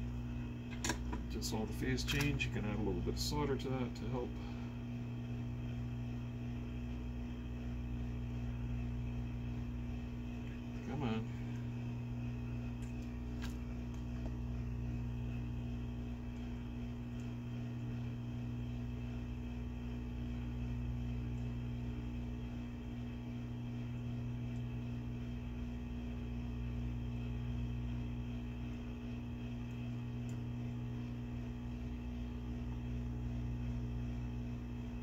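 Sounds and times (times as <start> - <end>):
fan motor hum: 0.0 - 35.0.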